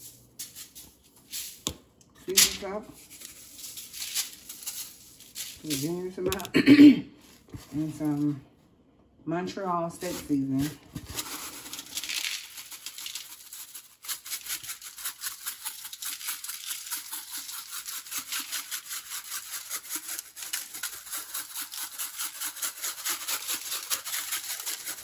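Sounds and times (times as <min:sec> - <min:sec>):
seasoning shaken from container: 0:00.0 - 0:01.6, 0:02.3 - 0:06.2, 0:10.0 - 0:25.0.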